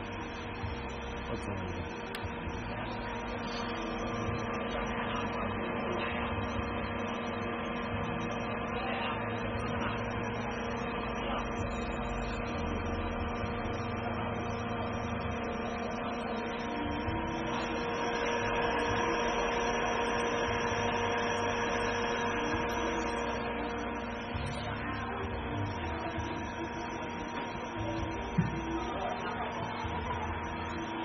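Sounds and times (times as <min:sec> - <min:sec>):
heater blowers and fans whirring: 0:00.0 - 0:31.0
held tones: 0:00.0 - 0:31.0.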